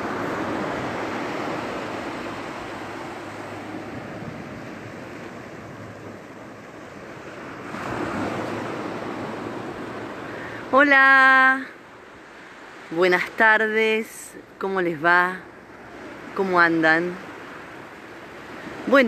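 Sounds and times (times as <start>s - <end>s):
waves washing onto beach: 0.0s - 19.0s.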